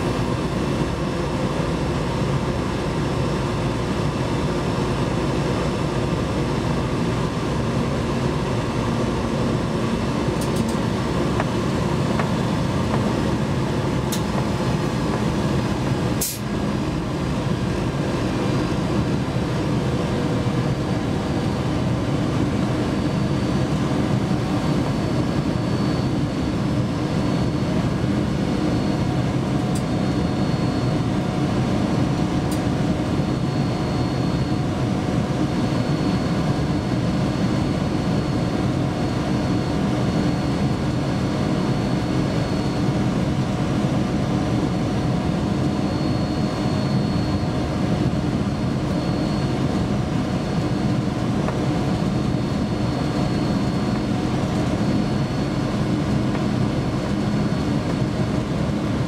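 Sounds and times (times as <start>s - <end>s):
locomotive cab running drone: 0.0s - 59.0s.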